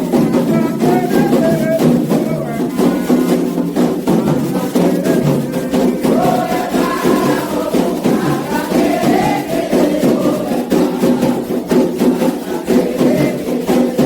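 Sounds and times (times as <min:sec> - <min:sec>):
group of voices chanting: 0:00.0 - 0:14.0
hand percussion: 0:00.0 - 0:14.0
steady drumming: 0:00.0 - 0:14.0.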